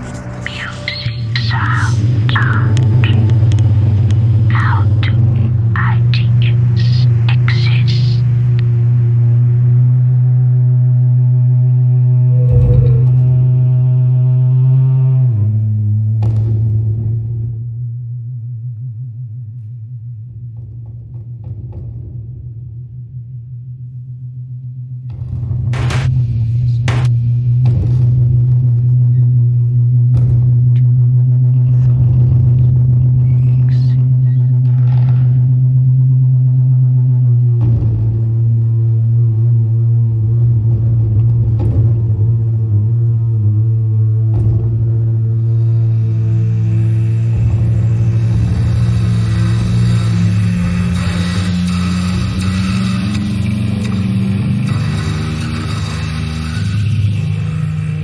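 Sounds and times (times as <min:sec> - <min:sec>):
deep noise music drone: 0:00.0 - 0:58.0.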